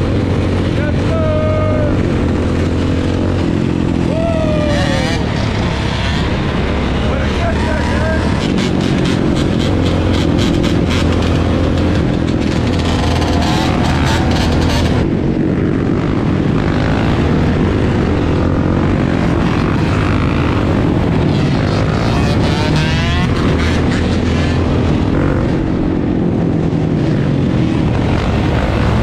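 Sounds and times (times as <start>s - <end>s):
atv and dirt bike engines: 0.0s - 29.0s.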